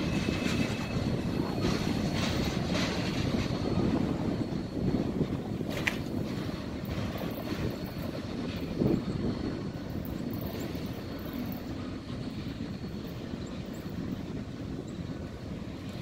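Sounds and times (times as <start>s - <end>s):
steel wheels rumbling on rail: 0.0s - 16.0s.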